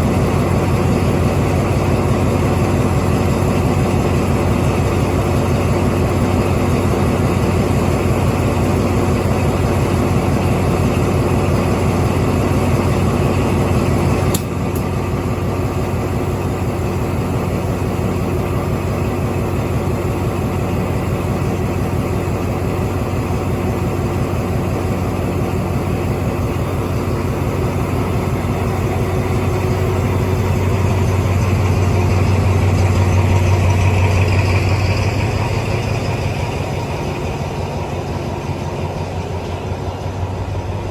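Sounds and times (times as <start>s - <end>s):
diesel train engine humming: 0.0s - 40.9s.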